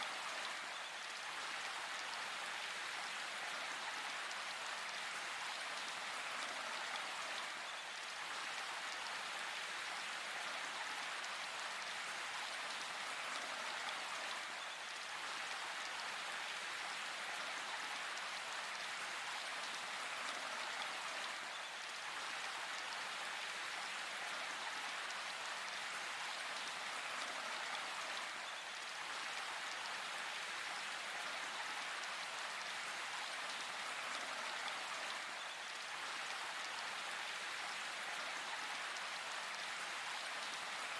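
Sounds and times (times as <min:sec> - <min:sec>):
rain falling in a forest: 0:00.0 - 0:40.9.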